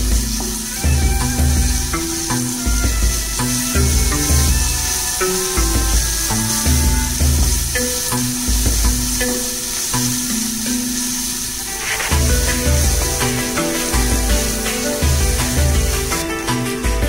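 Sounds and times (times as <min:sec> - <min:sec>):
wooden spatula stirring: 0:00.0 - 0:16.6
background music with bass line: 0:00.0 - 0:17.0
onions sizzling in oil: 0:00.0 - 0:17.0.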